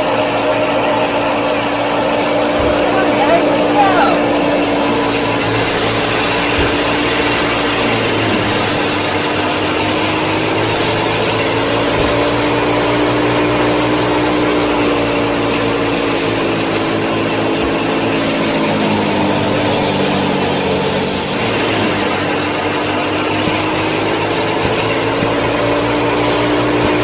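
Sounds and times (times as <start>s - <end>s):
small electric motor whining: 0.0s - 27.0s
mechanical rattle: 4.3s - 27.0s.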